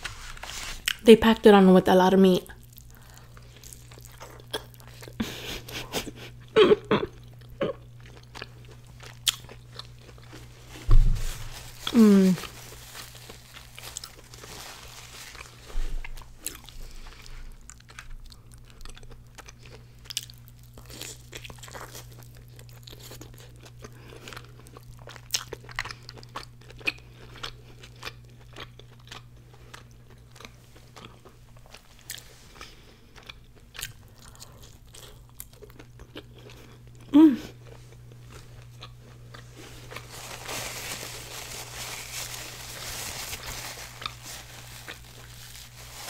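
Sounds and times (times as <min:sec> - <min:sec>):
crunching fried tortilla: 0:07.4 - 0:36.9, 0:37.6 - 0:46.0.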